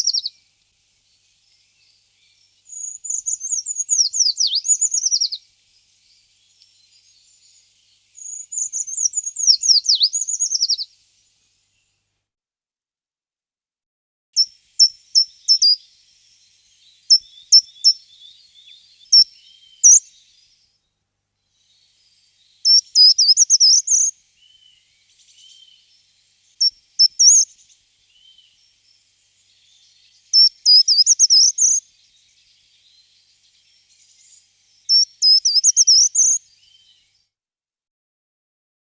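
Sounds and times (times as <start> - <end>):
songbird calling and singing: 0.0 - 11.9, 14.4 - 37.3.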